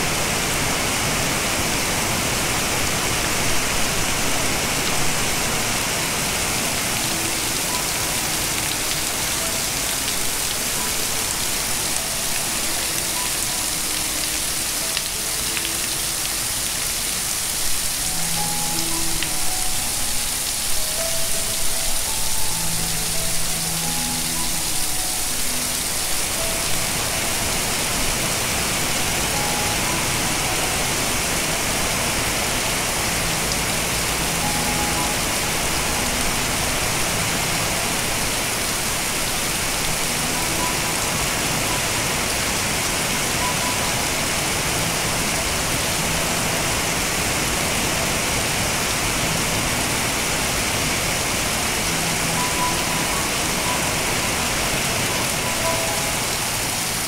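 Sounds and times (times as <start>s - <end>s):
heavy rain hissing: 0.0s - 57.0s
rain splashing into puddles: 0.0s - 57.0s.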